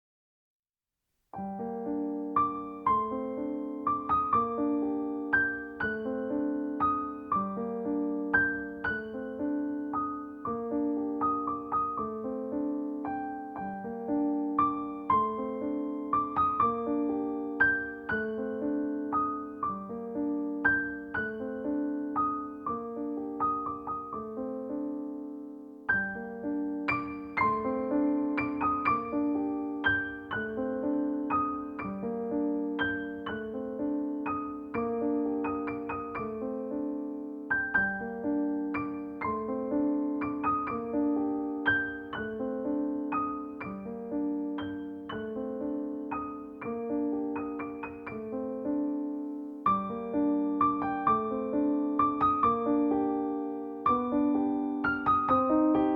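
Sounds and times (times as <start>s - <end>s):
gentle piano music: 1.3s - 55.9s.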